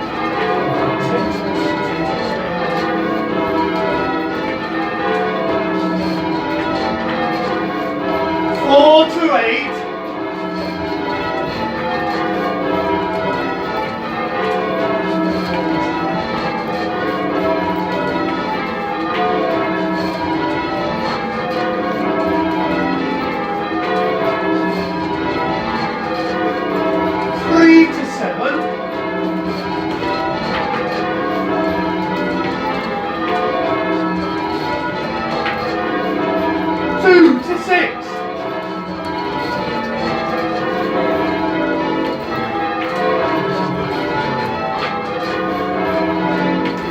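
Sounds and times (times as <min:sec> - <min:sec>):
church bells ringing changes: 0:00.0 - 0:46.9.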